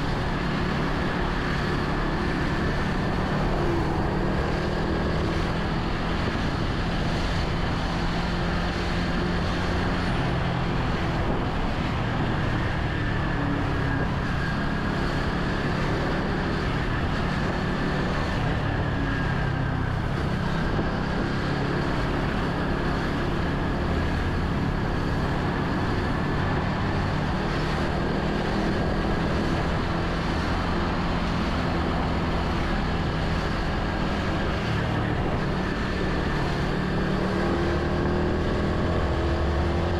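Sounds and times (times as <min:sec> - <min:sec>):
road noise from traffic: 0:00.0 - 0:39.9
wind rush: 0:00.0 - 0:39.9.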